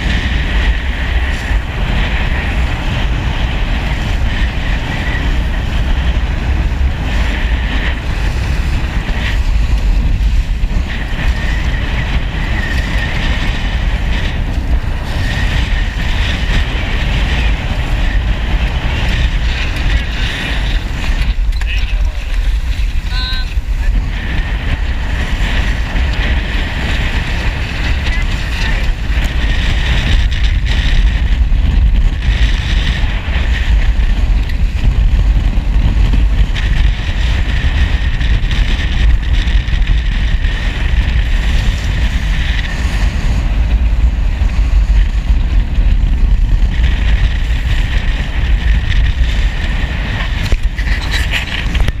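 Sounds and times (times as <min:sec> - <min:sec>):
water rushing along hull: 0:00.0 - 0:52.0
wind buffeting microphone: 0:00.0 - 0:52.0.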